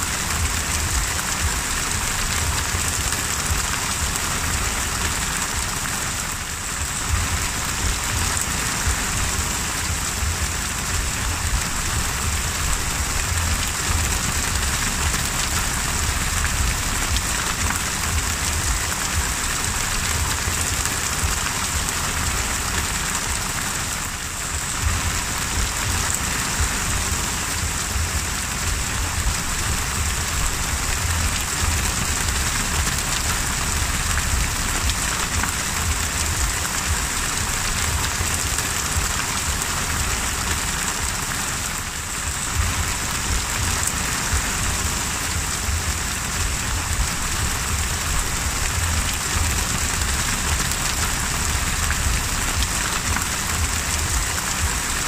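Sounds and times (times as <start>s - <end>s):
low rumble: 0.0s - 23.6s, 24.3s - 41.2s, 41.8s - 55.0s
heavy rain on sea surface: 0.0s - 55.0s.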